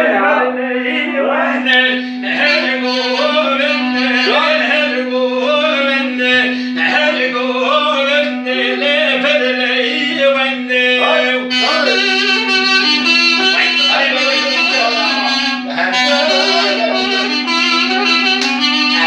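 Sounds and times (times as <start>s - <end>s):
man singing into microphone: 0.0s - 12.6s, 13.4s - 17.3s
music: 0.0s - 19.0s
steady drone note: 0.0s - 19.0s.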